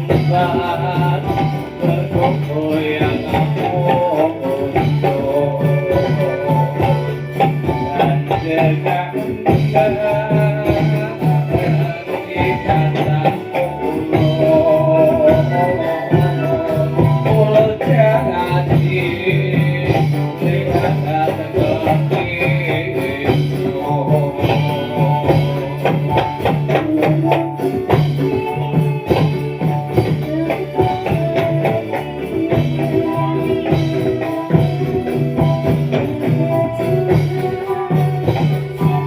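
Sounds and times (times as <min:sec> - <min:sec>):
folk dance music: 0:00.0 - 0:39.0
jingling frame drum: 0:00.0 - 0:39.0.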